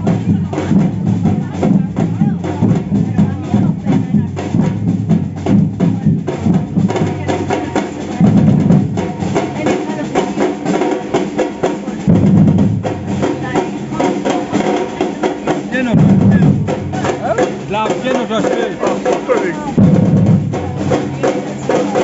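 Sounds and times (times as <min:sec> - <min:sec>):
bass drums: 0:00.0 - 0:22.0
snare drums: 0:00.0 - 0:22.0.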